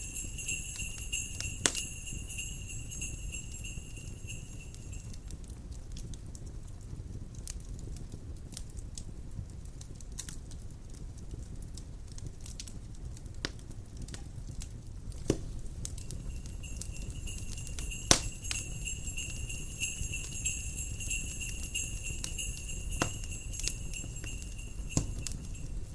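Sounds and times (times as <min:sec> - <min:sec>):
fire popping: 0:00.0 - 0:25.9
wood fire crackling: 0:00.0 - 0:25.9.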